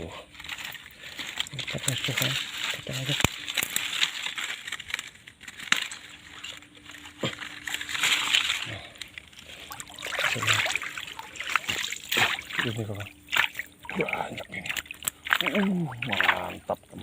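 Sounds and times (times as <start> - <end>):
water sloshing and splashing: 0.3 - 17.0.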